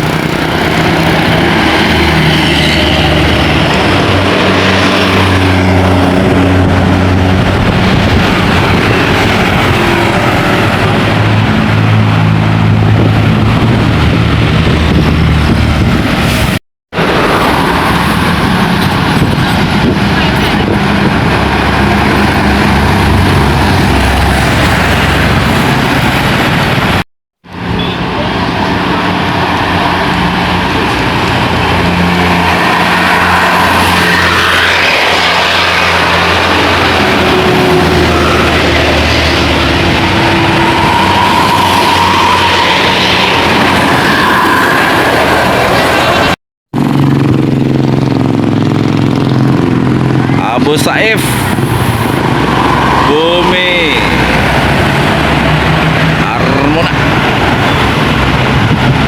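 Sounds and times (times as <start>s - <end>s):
bus engine droning: 0.0s - 59.0s
road and wind noise: 0.0s - 59.0s.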